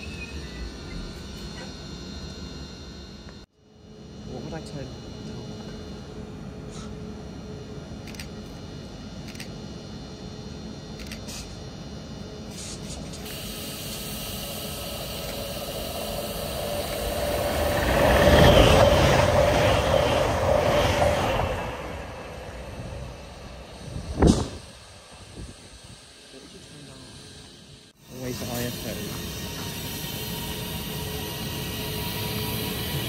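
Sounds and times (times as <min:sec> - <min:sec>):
steady train whine: 0:00.0 - 0:33.0
train passing through station: 0:00.0 - 0:33.0.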